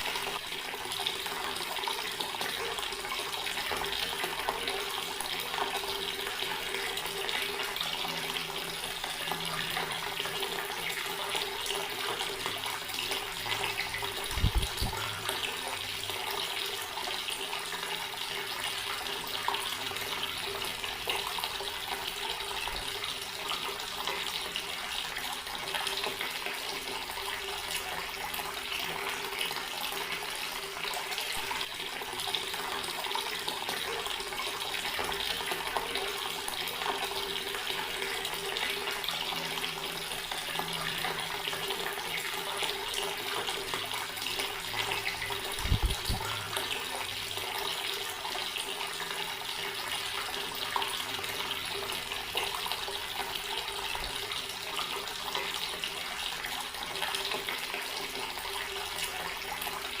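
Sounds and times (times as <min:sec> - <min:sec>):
water running from a tap: 0:00.0 - 1:00.0.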